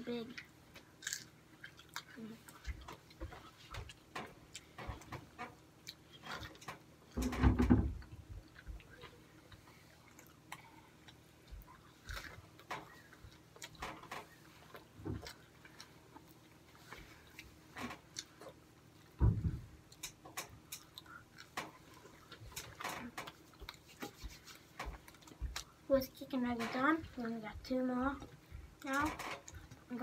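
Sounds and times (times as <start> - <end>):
people chewing fries: 0.0 - 7.3, 7.9 - 19.2, 19.8 - 26.1.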